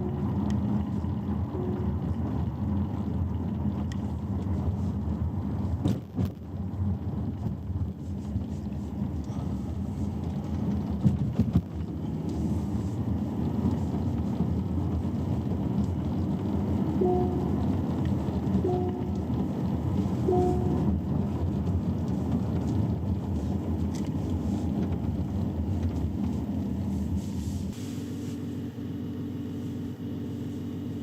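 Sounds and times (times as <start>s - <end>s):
car road rumble: 0.0s - 31.0s.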